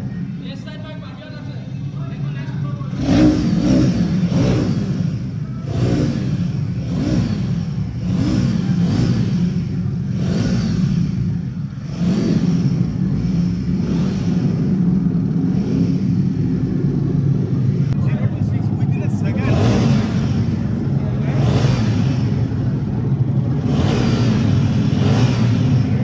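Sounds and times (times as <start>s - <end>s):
motorcycle engine revving: 1.9s - 26.0s.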